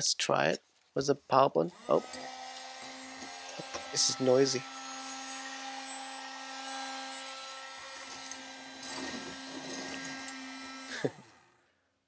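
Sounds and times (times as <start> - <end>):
small vacuum motor whining: 1.7 - 11.7.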